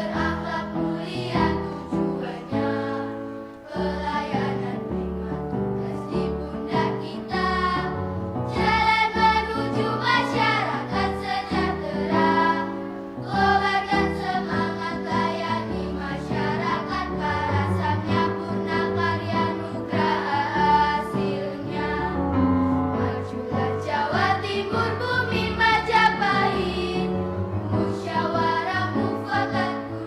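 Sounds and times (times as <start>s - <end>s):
choir-like singing with accompaniment: 0.0s - 30.0s.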